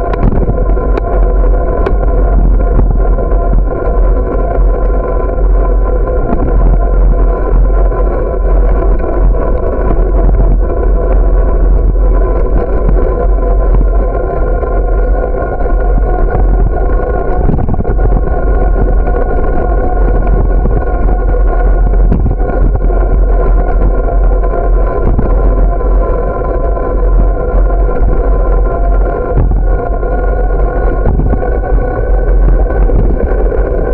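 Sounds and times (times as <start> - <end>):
constant hum: 0.0 - 33.9
tyres rumbling on asphalt: 0.0 - 33.9
wind buffeting microphone: 0.0 - 33.9.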